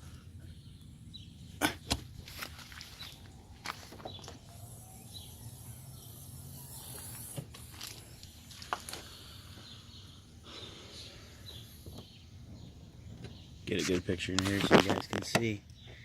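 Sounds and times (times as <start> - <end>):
low outdoor background: 0.0 - 16.0.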